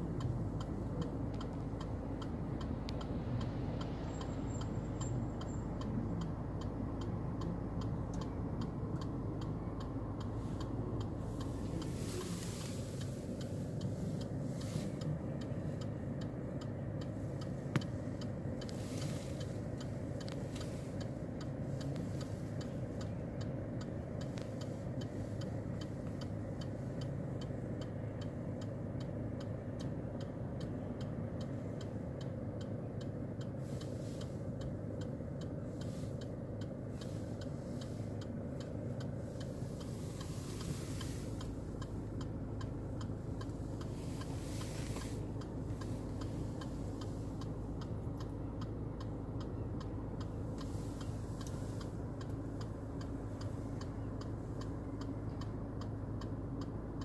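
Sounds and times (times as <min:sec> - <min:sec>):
regular ticking: 0:00.0 - 0:57.0
steady low rumble: 0:00.0 - 0:57.0.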